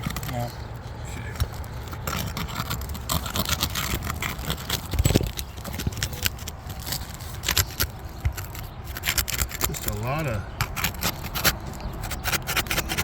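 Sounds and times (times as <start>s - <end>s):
shingles scraping and crackling: 0.0s - 13.0s.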